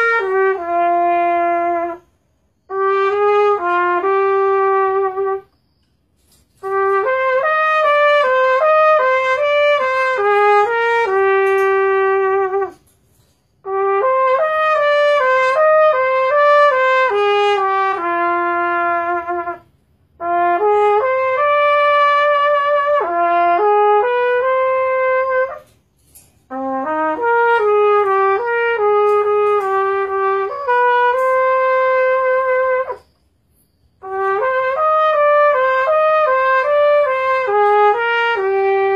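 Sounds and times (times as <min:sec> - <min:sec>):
solo trumpet melody: 0:00.0 - 0:38.9.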